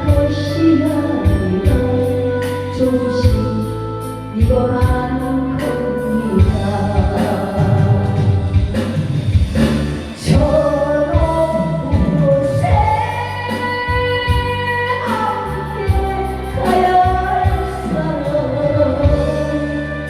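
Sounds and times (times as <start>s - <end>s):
person singing: 0.0s - 9.0s, 10.2s - 20.0s
backing track music: 0.0s - 20.0s.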